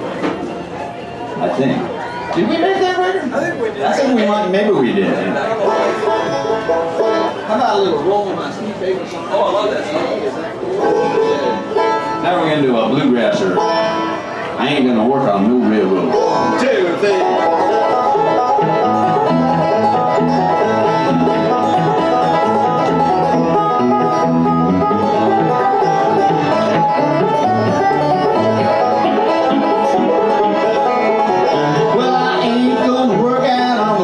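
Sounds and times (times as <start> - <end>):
banjo and electric guitar instrumental: 0.0 - 34.0.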